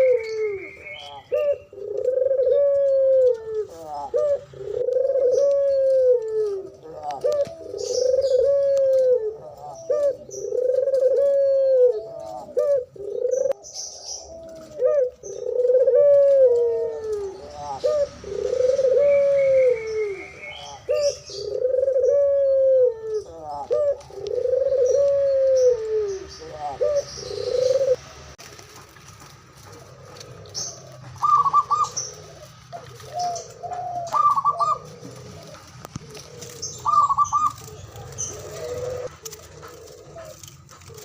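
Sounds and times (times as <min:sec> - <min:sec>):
doves cooing: 0:00.0 - 0:41.0
small birds chirping: 0:00.0 - 0:41.0.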